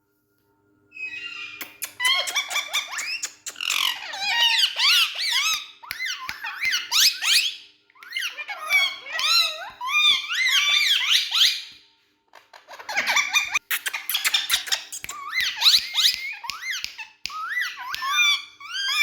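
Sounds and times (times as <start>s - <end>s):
parrots chattering: 1.0s - 11.6s, 12.4s - 19.0s.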